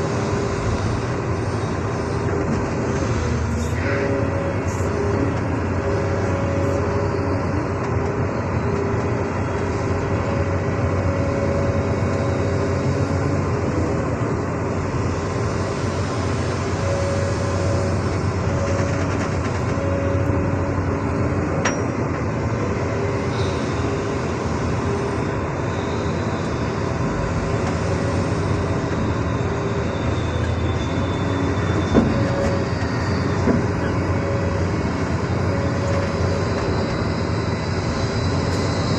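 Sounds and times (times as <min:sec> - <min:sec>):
diesel engine running: 0:00.0 - 0:38.9
pitched whines: 0:00.1 - 0:38.9.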